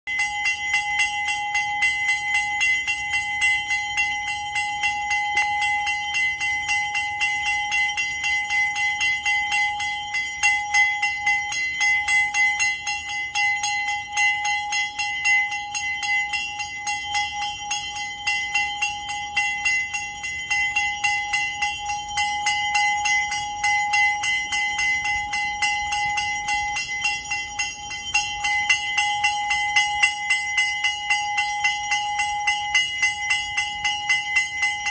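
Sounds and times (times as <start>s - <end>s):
bell rung rapidly: 0.1s - 34.9s.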